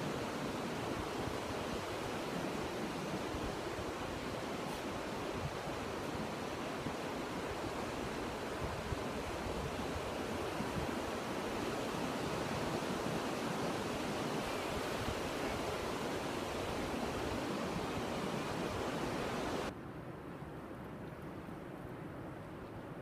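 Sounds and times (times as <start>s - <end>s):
surf washing onto beach: 0.0s - 19.7s.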